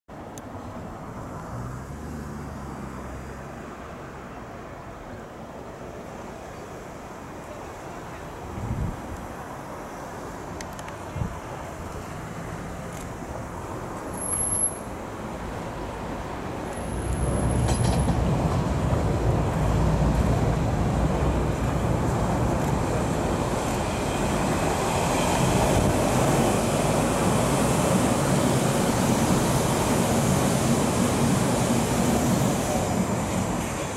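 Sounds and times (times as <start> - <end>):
underground train passing: 0.1 - 33.9.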